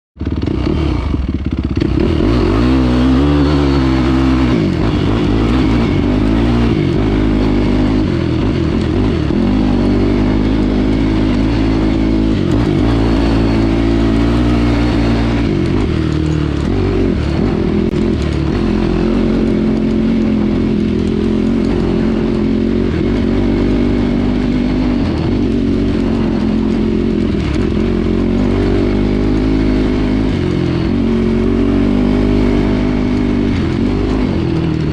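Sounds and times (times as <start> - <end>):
quad engine revving: 0.2 - 34.9.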